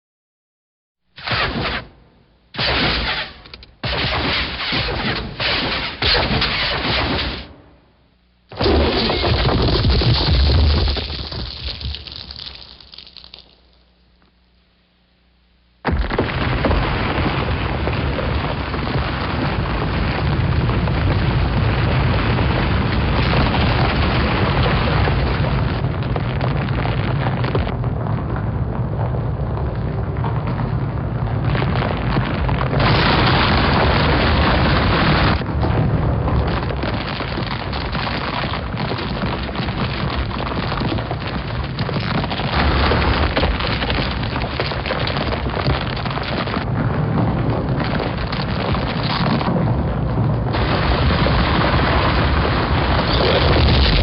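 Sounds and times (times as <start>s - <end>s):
boulder rolling rumble: 8.5s - 13.8s, 15.8s - 54.0s
crackling crumbling stone: 8.5s - 14.4s, 15.9s - 54.0s.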